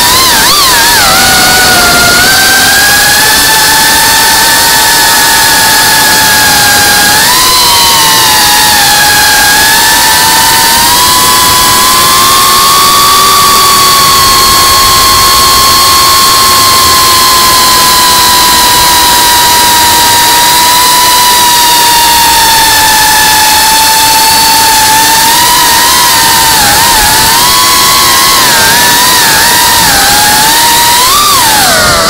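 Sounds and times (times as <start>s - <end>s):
drone motors whining: 0.0s - 32.0s.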